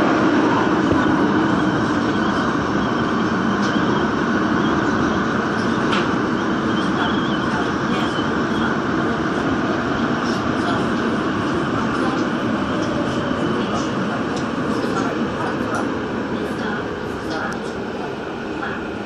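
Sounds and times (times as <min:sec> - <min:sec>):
train passing: 0:00.0 - 0:19.0
train wheels rumbling on rail: 0:00.0 - 0:19.0.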